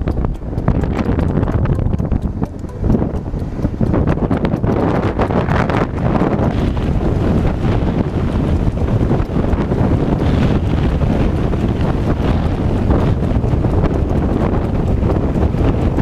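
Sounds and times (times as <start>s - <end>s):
motorcycle low rumble: 0.0s - 16.0s
wind buffeting on microphone: 0.0s - 16.0s.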